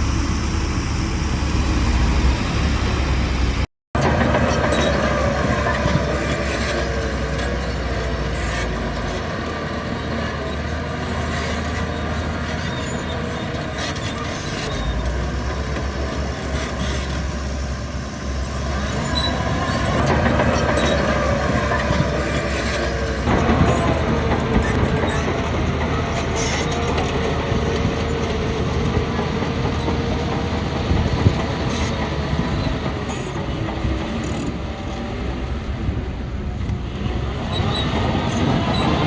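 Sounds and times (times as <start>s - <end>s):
diesel engine running under load: 0.0s - 39.0s
steel tracks clanking: 0.0s - 39.0s.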